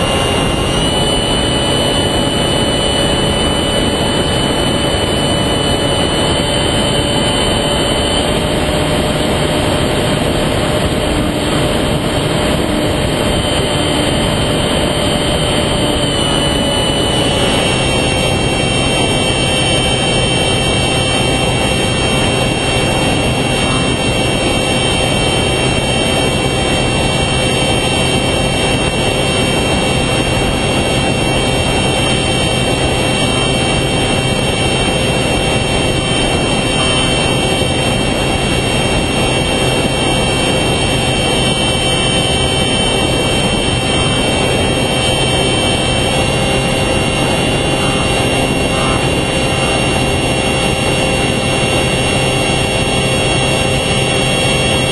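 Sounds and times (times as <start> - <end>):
electric motor and propeller drone: 0.0 - 54.9.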